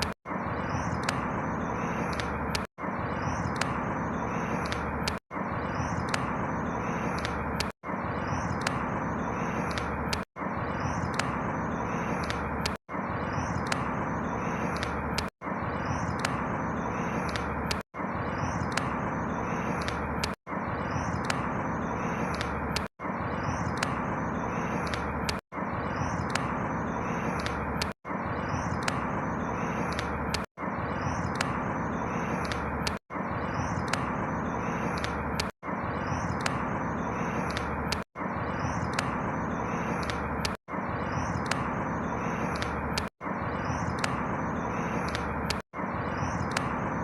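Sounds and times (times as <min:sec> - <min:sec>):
faint bird chirps: 0:00.0 - 0:47.0
steady rushing background: 0:00.0 - 0:47.0.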